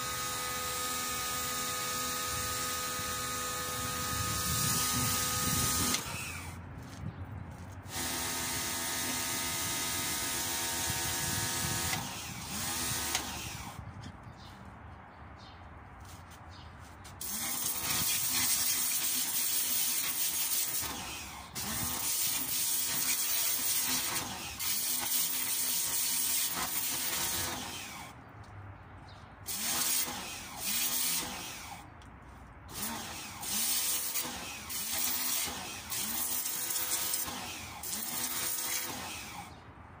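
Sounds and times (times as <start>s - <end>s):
pressure washer motor: 0.0s - 6.6s, 7.9s - 13.8s, 17.2s - 28.1s, 29.5s - 31.9s, 32.7s - 39.6s.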